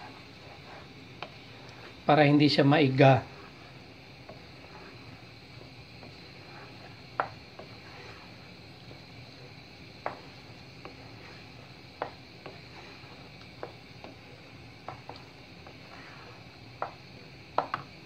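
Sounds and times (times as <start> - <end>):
wooden spoon scraping a pan: 0.0 - 18.0.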